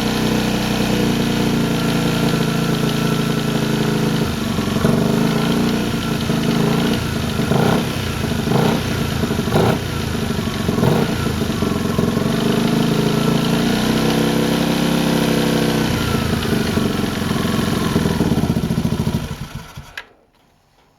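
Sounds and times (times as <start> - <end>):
engine rattle: 0.0 - 20.0
scooter engine revving: 0.0 - 20.1.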